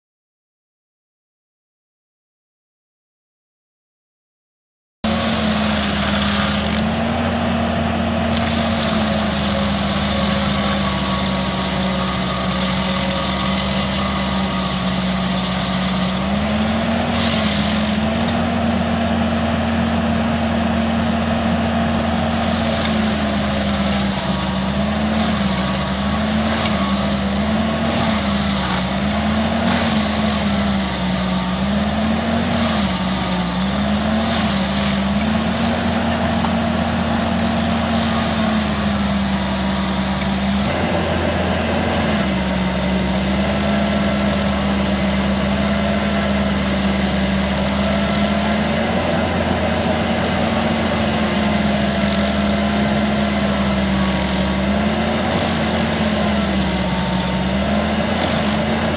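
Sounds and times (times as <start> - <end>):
cutter wheel grinding stump: 5.0 - 58.9
diesel engine running under load: 5.0 - 58.9.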